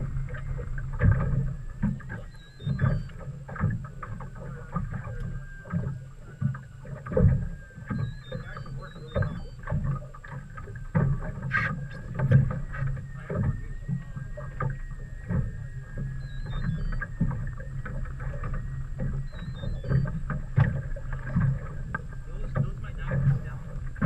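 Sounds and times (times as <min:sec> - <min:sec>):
low rumble: 0:00.0 - 0:24.0
water slapping against boat: 0:00.0 - 0:24.0.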